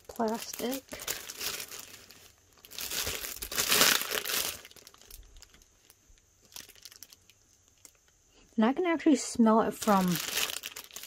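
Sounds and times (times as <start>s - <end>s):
plastic bag crinkling: 0.0s - 8.1s, 9.7s - 11.0s.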